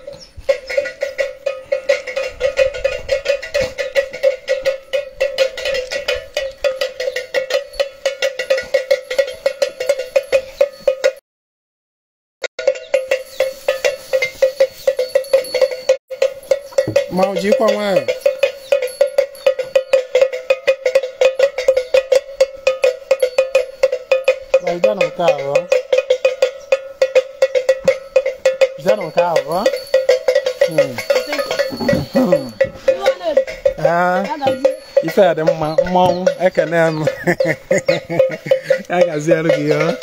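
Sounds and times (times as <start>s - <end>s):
metal bell struck rapidly: 0.4s - 11.2s, 12.6s - 40.0s.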